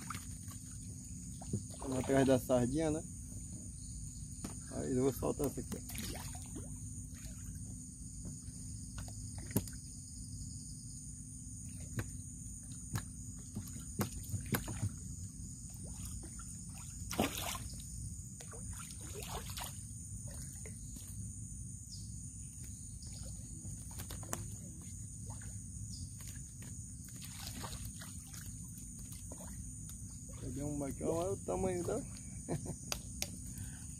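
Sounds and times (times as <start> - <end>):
water lapping around canoe: 0.0 - 2.6, 5.4 - 9.9, 11.5 - 21.4, 22.4 - 32.6
insects buzzing: 0.0 - 33.9.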